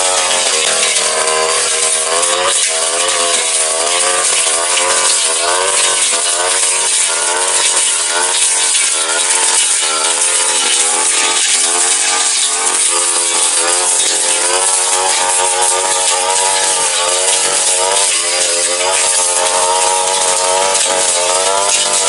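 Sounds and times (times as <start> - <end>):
blade cutting through grass: 0.0 - 22.0
brush cutter engine revving: 0.0 - 22.0.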